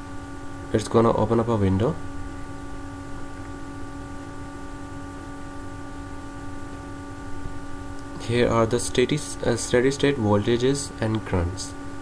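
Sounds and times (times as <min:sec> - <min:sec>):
steady hum with high tones: 0:00.0 - 0:12.0.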